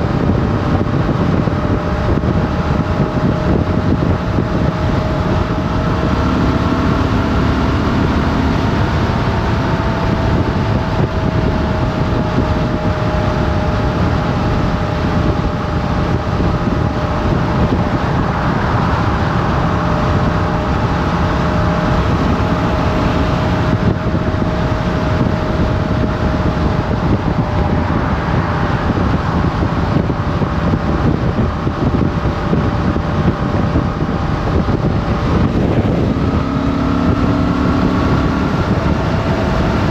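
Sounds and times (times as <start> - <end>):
motorcycle engine cruising: 0.0 - 39.9
wind rushing: 0.0 - 39.9.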